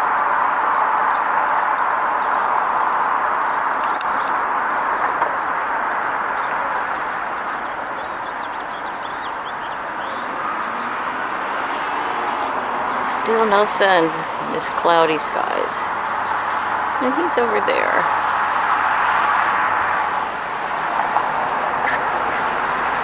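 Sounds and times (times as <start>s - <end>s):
rushing background noise: 0.0s - 23.0s
small birds chirping: 0.0s - 23.0s.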